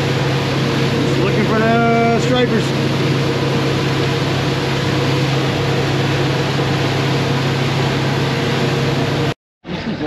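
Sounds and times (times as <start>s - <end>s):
outboard motor running: 0.0s - 9.4s.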